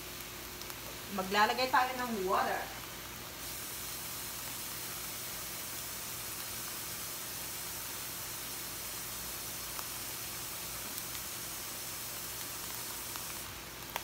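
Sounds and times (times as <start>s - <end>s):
pan sizzling: 0.0s - 14.0s.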